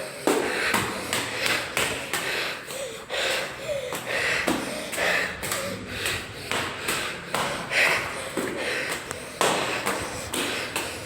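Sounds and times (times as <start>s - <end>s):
heavy breathing: 0.0s - 11.0s
footsteps climbing stairs: 0.3s - 11.0s.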